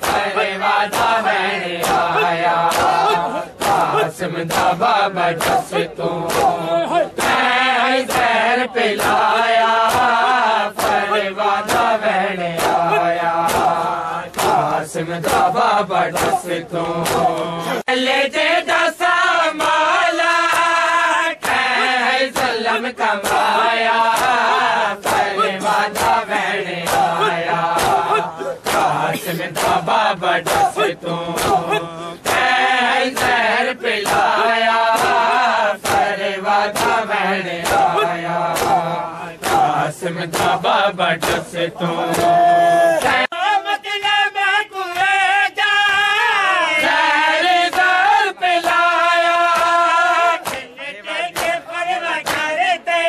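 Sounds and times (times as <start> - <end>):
hands slapping chests: 0.0 - 17.6, 20.4 - 20.8, 21.4 - 43.3, 47.6 - 48.0, 48.6 - 51.6, 52.2 - 52.6
men chanting in unison: 0.0 - 53.0.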